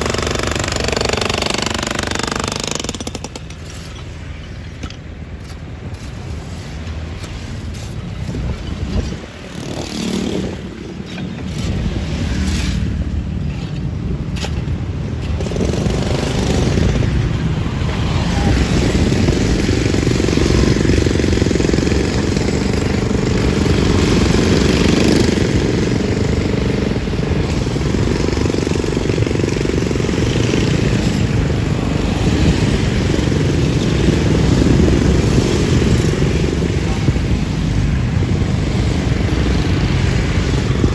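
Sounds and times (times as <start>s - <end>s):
motorbike and scooter traffic: 0.0s - 40.9s.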